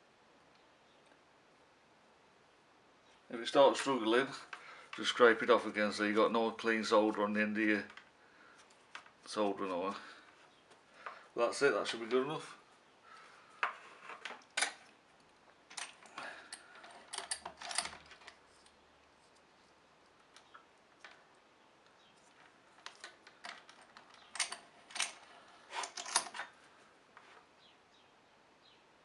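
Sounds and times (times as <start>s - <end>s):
hands handling wire and tools: 3.2s - 27.5s.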